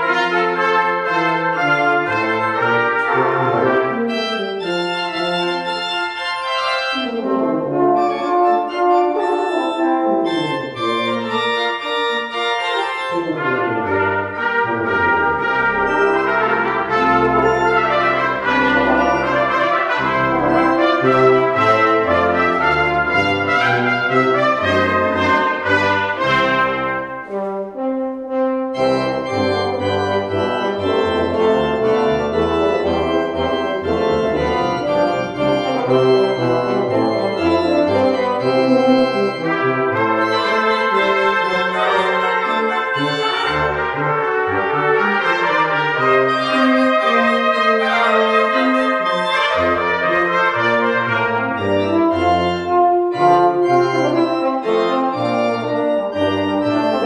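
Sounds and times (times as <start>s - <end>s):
brass ensemble playing classical piece: 0.0s - 57.0s
pipe organ: 0.0s - 57.0s.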